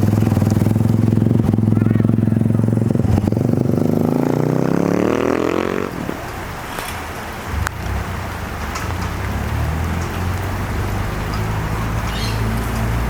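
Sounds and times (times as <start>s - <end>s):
motor engine revving: 0.0s - 6.2s, 7.4s - 13.0s.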